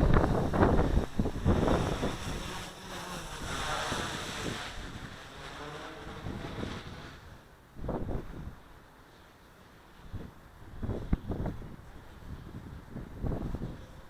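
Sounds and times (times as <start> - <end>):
wind buffeting microphone: 0.0 - 8.8, 10.0 - 14.0.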